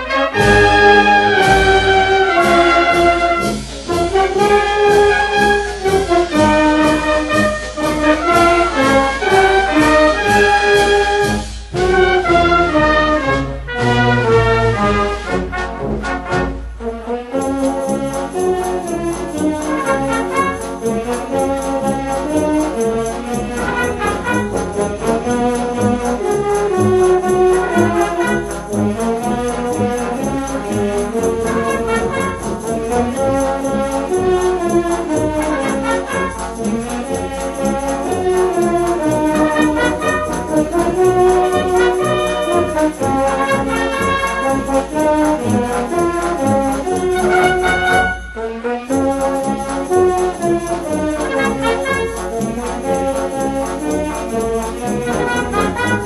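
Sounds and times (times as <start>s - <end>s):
wind band playing: 0.0s - 56.0s.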